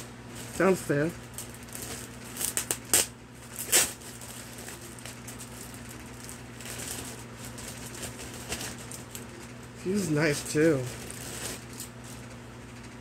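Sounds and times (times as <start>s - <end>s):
steady low hum: 0.0s - 13.0s
plastic bag crinkling: 0.3s - 12.3s.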